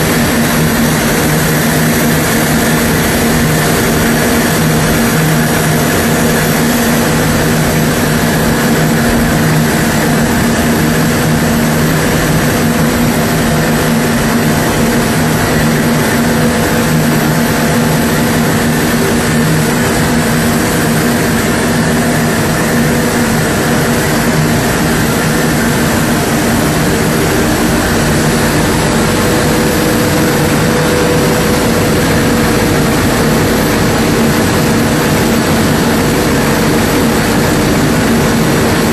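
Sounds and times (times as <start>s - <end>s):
machine drone: 0.0s - 38.9s.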